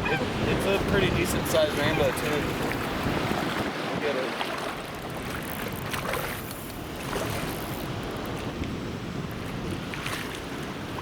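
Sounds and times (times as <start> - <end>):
moving water rushing: 0.0 - 11.0
wind buffeting microphone: 0.0 - 11.0.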